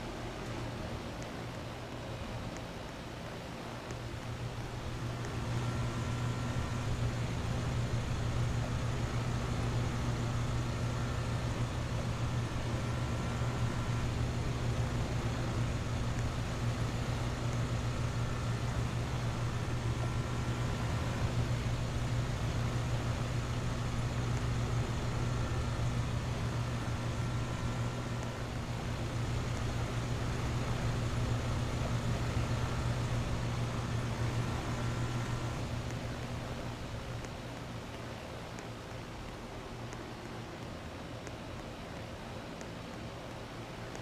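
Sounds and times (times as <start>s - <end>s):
condenser fan whooshing: 0.0s - 42.0s
compressor humming: 3.6s - 40.6s.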